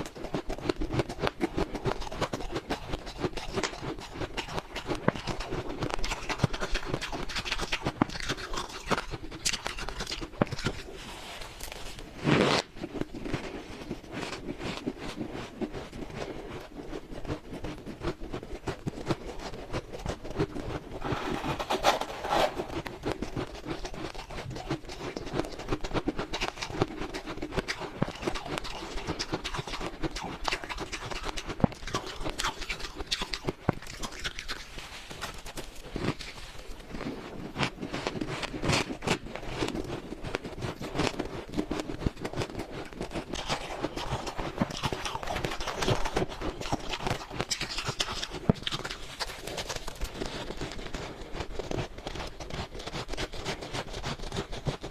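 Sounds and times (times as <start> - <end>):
person chewing ice crunching: 0.0 - 54.9.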